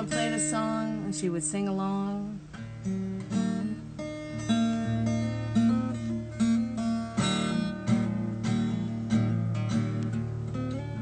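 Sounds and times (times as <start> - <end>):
acoustic guitar plucking: 0.0 - 11.0.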